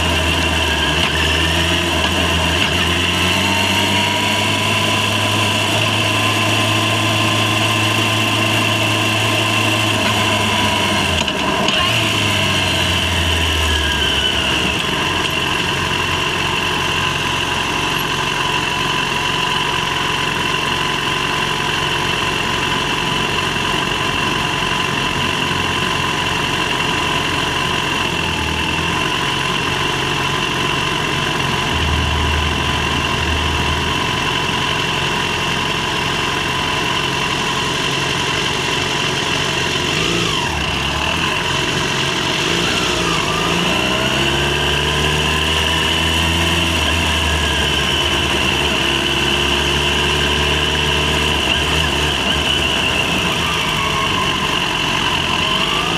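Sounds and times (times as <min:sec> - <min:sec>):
motorcycle engine riding: 0:00.0 - 0:55.9.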